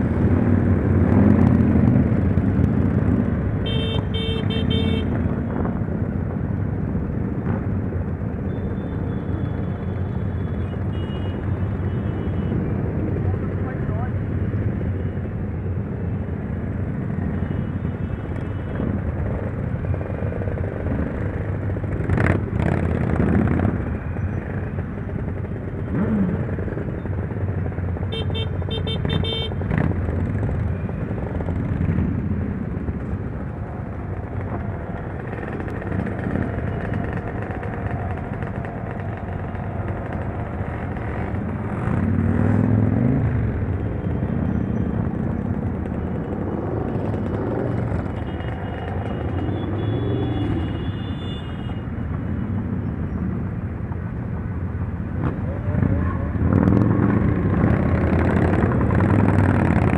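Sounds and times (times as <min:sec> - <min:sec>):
motorcycle engines revving: 0:00.0 - 0:59.9
road noise: 0:00.0 - 0:59.9.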